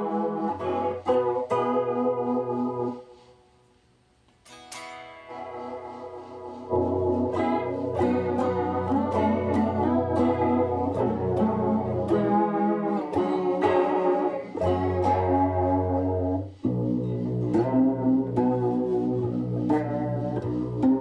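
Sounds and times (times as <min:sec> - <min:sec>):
guitar with chorus effect: 0:00.0 - 0:03.6, 0:04.3 - 0:21.0.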